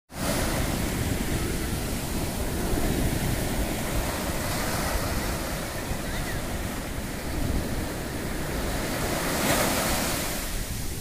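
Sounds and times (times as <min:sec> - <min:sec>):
sea surf breaking on sand: 0:00.1 - 0:11.0
wind noise on microphone: 0:00.1 - 0:11.0.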